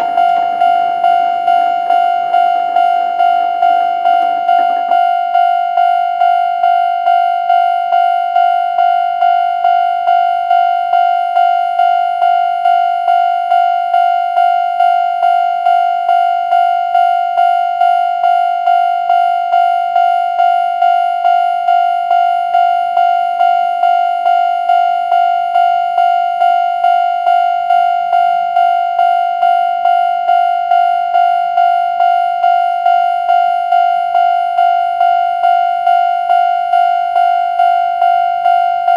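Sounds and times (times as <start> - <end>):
level crossing warning bell clanging: 0.0 - 38.9.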